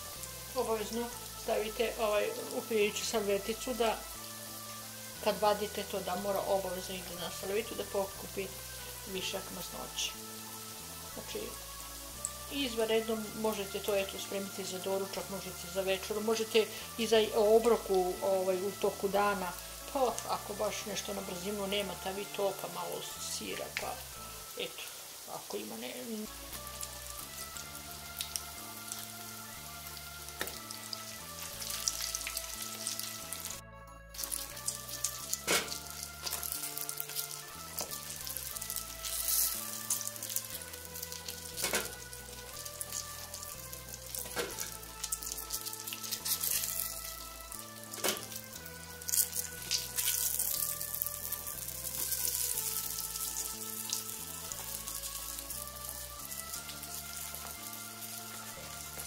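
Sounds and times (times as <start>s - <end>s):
slices sizzling in hot oil: 0.0s - 59.0s.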